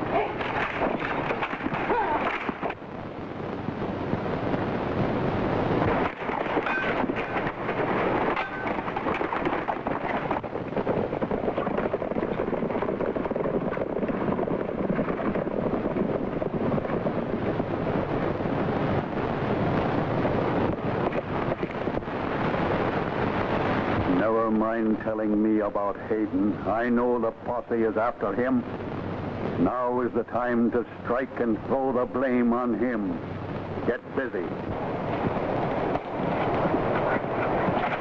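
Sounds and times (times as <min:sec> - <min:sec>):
horses galloping: 0:00.0 - 0:02.9, 0:05.8 - 0:38.0.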